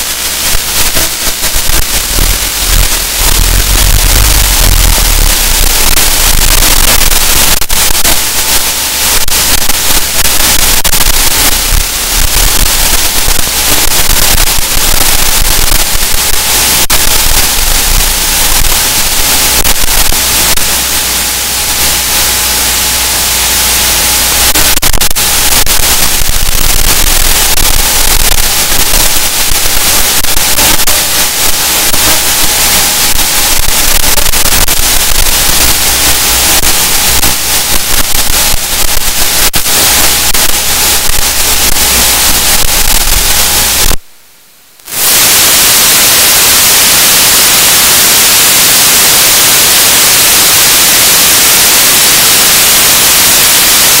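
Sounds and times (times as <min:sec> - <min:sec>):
loud white-noise static: 0:00.0 - 0:54.0.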